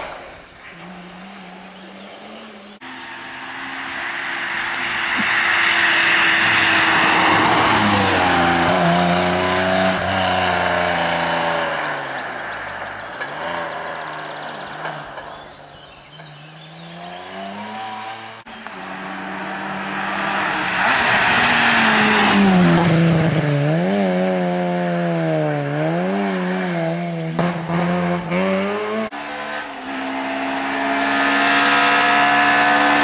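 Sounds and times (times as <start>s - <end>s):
rally car passing at full throttle: 0.0s - 33.0s.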